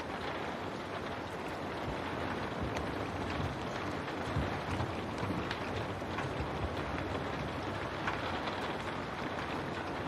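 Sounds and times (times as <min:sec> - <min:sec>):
rain pattering on window glass: 0:00.0 - 0:10.0.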